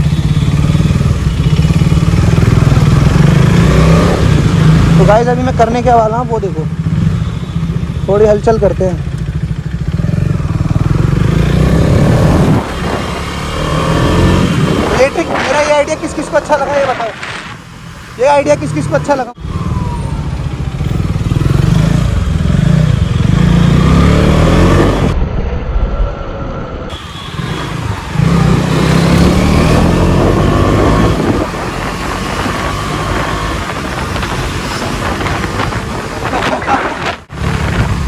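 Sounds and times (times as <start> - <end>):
motorcycle engine revving: 0.0 - 25.4, 26.9 - 38.0.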